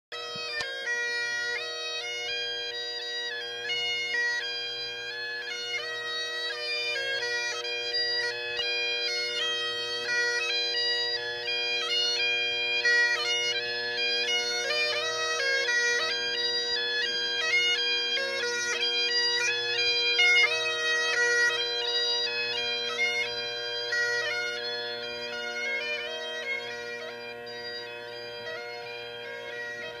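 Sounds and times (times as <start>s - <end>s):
bagpipe playing a tune: 0.1s - 30.0s.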